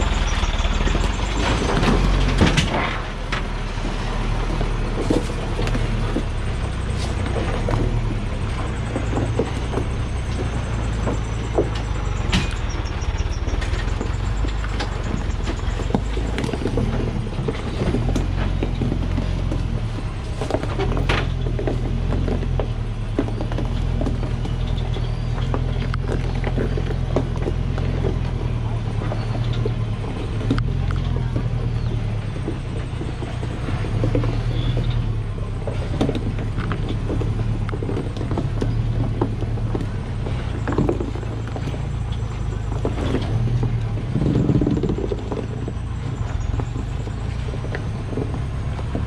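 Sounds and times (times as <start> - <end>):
clanks and knocks from tyres: 0.0 - 49.0
diesel truck engine pulling: 0.0 - 49.0.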